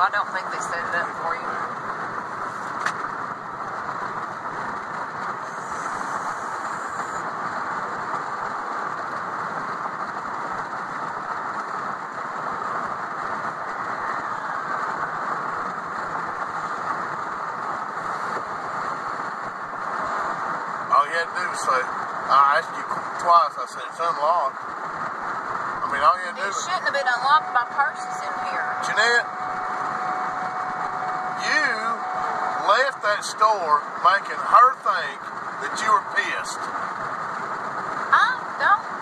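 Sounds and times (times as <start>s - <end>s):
road and wind noise in vehicle: 0.0s - 39.0s.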